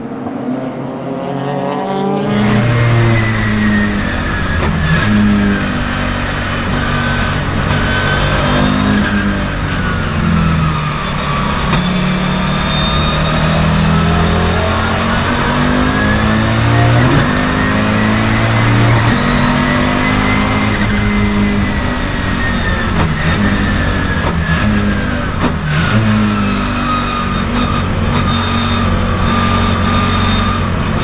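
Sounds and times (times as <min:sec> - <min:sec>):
high turbo whine: 0:00.0 - 0:31.0
race car engine changing gears: 0:00.0 - 0:31.0.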